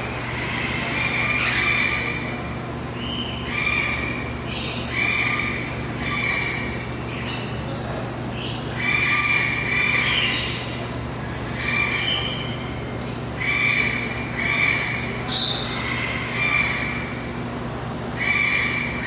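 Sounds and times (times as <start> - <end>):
steady low hum: 0.0 - 19.0
harsh bird calls: 0.1 - 7.6, 8.3 - 17.4, 18.1 - 19.0.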